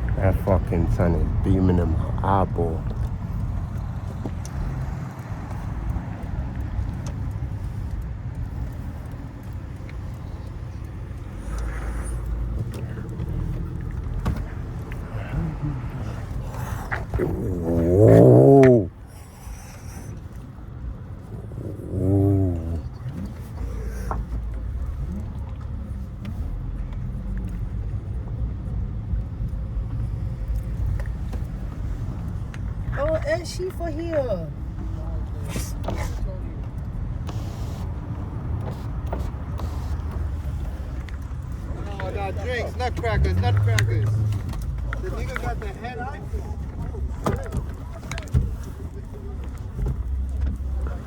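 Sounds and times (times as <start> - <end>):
car engine low rumble: 0.0 - 51.0.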